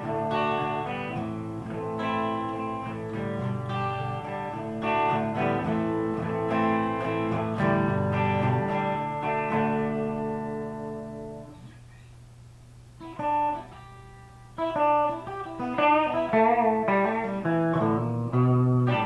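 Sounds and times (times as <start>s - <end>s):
electric guitar chords and notes: 0.0s - 11.7s, 13.0s - 19.0s.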